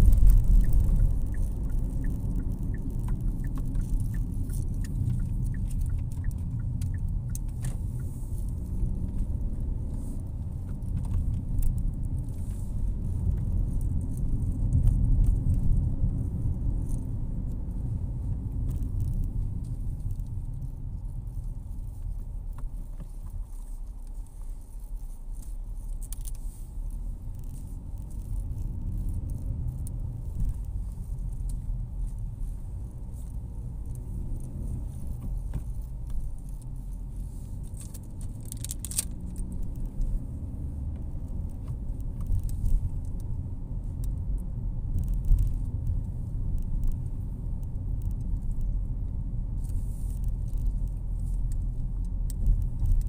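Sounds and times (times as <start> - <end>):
car engine and tyre noise: 0.0 - 53.0
light ticks and rattles: 0.0 - 53.0.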